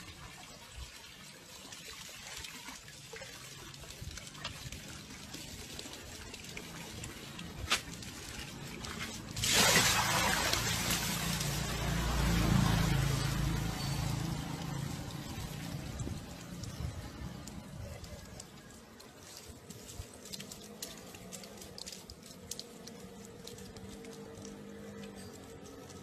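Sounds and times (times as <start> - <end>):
hose water running into tub: 0.0 - 26.0.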